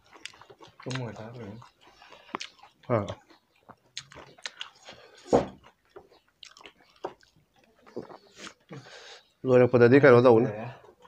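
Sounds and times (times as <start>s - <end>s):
people chewing with mouth clicks: 0.0s - 9.4s, 10.7s - 11.0s.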